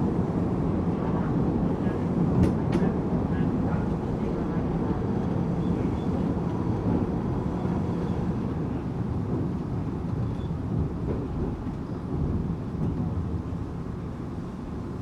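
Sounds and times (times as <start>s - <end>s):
electric train rumbling: 0.1s - 15.0s.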